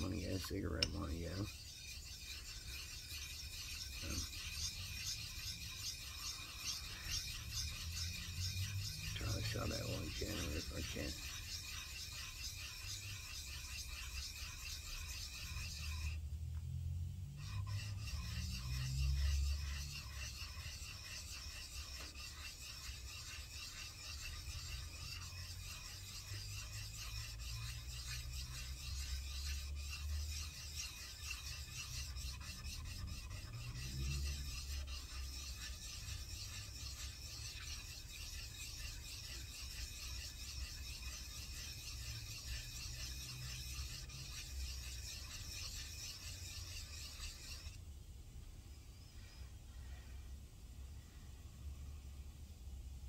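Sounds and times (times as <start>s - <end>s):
metal rasping on sandpaper: 0.0s - 16.2s, 17.3s - 47.8s.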